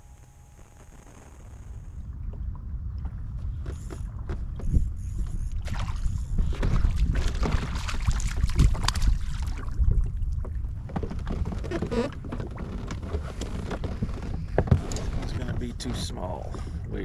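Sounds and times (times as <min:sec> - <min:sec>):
water sloshing against boat: 0:02.0 - 0:17.0
wind buffeting microphone: 0:02.0 - 0:17.0.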